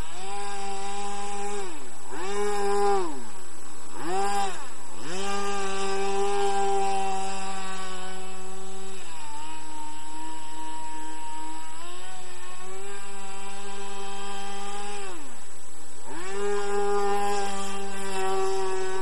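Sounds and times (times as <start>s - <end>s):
model airboat engine whining: 0.0s - 19.0s.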